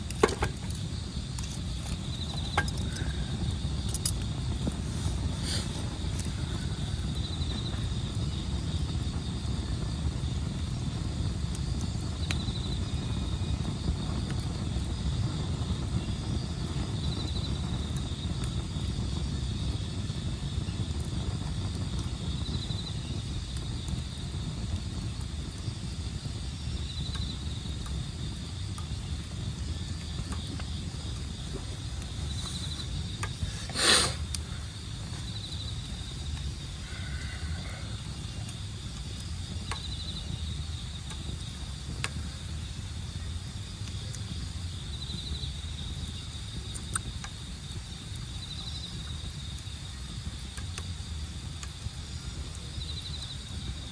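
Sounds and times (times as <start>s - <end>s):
campfire crackling: 0.0s - 53.9s
insect chirping trill: 0.0s - 53.9s
steady low rumble: 0.0s - 53.9s.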